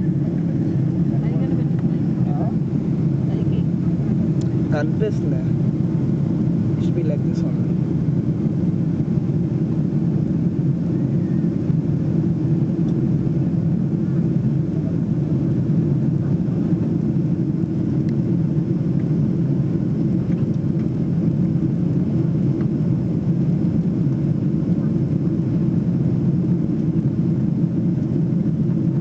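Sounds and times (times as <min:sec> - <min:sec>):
airplane cabin engine drone: 0:00.0 - 0:29.0.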